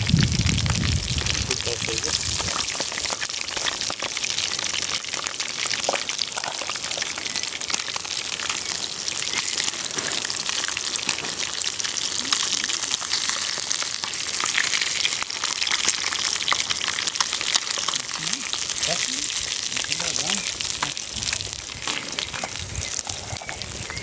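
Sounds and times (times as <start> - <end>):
crackling hiss with pops: 0.0 - 24.0.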